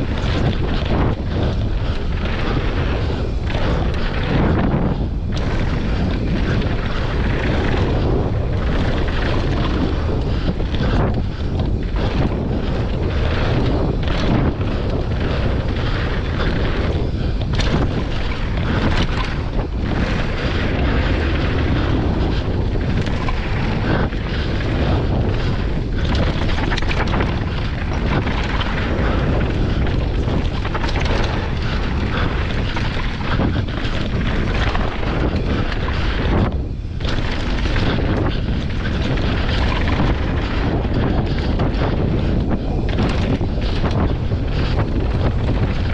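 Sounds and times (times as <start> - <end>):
bike knocks and rattles: 0.0 - 45.9
tyres running on dirt: 0.0 - 45.9
wind rumbling on microphone: 0.0 - 45.9.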